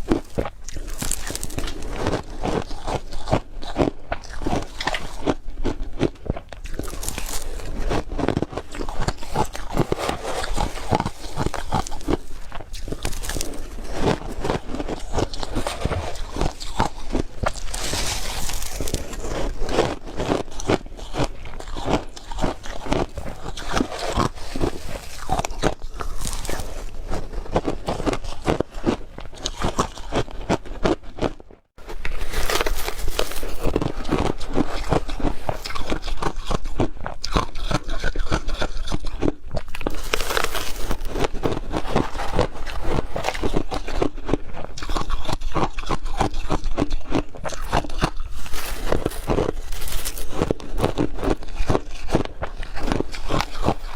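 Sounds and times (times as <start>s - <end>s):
chewing crushed ice: 0.0s - 53.9s.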